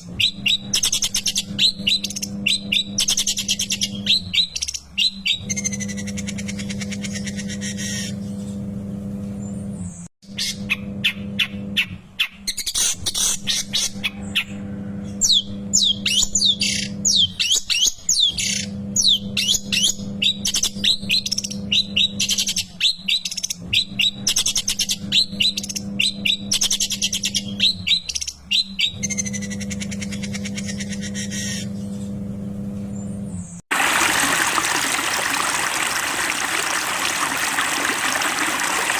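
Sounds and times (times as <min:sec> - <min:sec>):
bird singing scratchy chirps: 0:00.0 - 0:08.8, 0:09.4 - 0:33.6.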